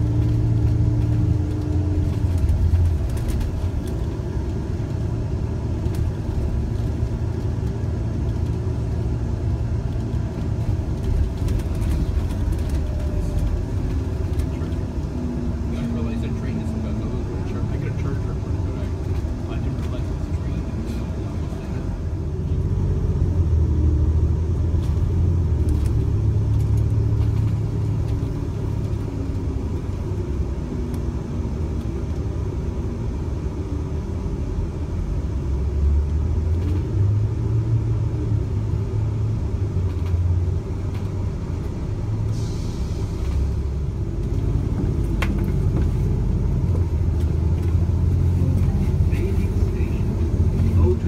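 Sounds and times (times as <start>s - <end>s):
vehicle engine and tyres rumbling: 0.0s - 51.0s.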